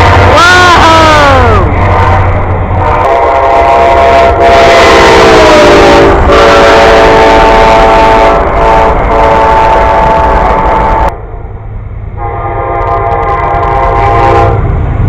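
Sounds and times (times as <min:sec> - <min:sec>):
locomotive horn blasts: 0:00.0 - 0:11.1, 0:12.2 - 0:14.7.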